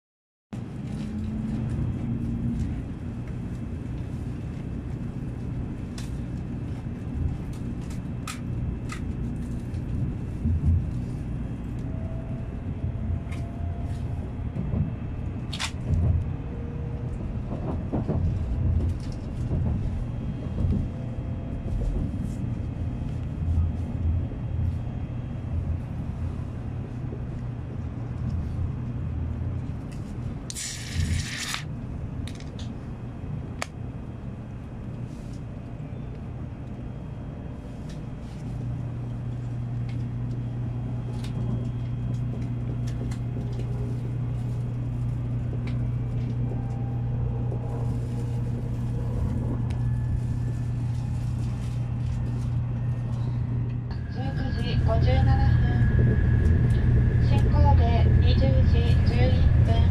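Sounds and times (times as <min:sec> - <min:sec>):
train cabin rumble: 0:00.6 - 0:59.9.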